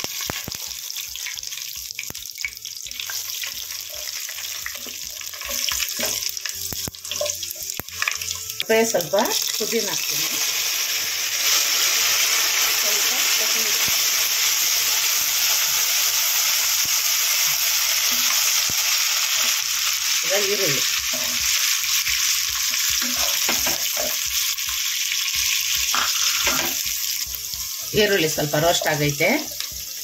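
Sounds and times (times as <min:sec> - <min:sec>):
spices sizzling in hot oil: 0:00.0 - 0:30.0.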